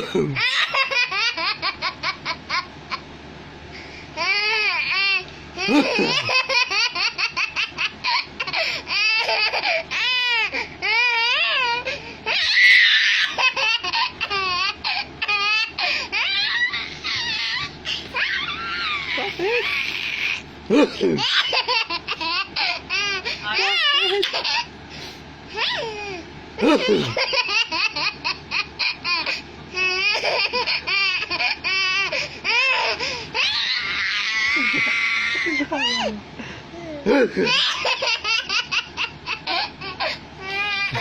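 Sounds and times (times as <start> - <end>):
baby laughing: 0.0 - 3.0, 4.2 - 24.7, 25.6 - 36.2, 37.1 - 41.0.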